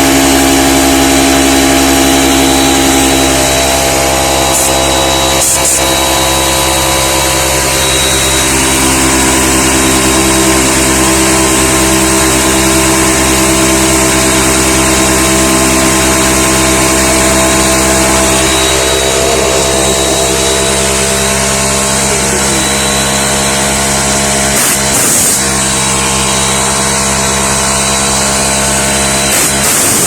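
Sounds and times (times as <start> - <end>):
air compressor running: 0.0 - 30.0.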